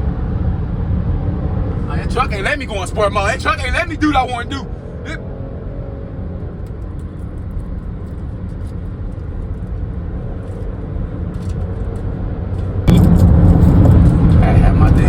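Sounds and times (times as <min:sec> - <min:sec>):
road noise: 0:00.0 - 0:15.0
vehicle engine rumble: 0:00.6 - 0:15.0.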